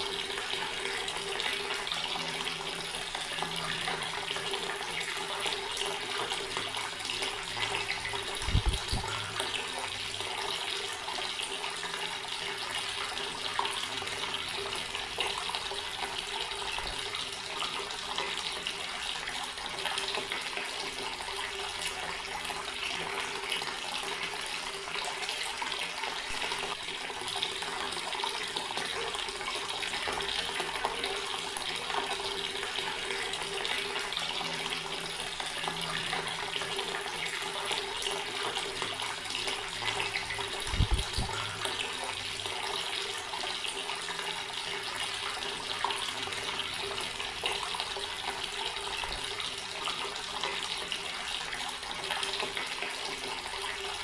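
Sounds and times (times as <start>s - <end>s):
water running from a tap: 0.0s - 54.0s.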